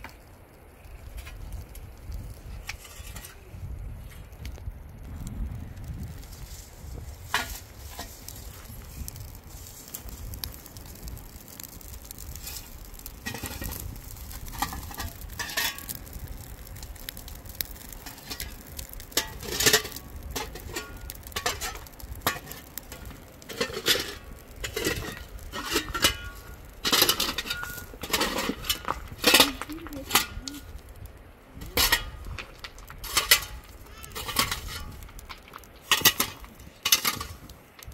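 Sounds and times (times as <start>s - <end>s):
metal shovel scraping stony ground: 2.6s - 4.3s, 6.3s - 16.1s, 17.8s - 30.8s, 31.6s - 37.8s.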